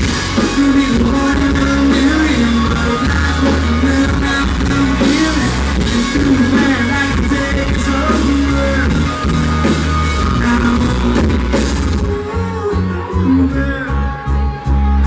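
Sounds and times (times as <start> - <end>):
live country band playing: 0.0 - 15.0.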